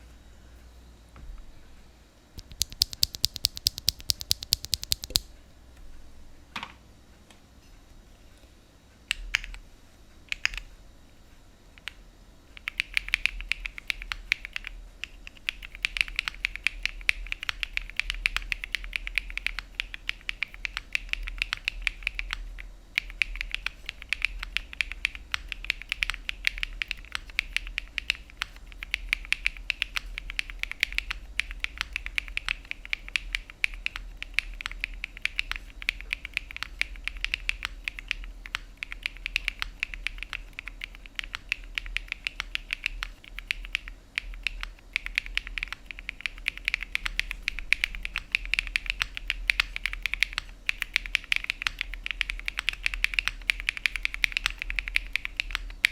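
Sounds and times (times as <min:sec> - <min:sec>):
mechanical keyboard typing: 0:02.4 - 0:05.3, 0:10.3 - 0:10.7, 0:11.8 - 0:55.9.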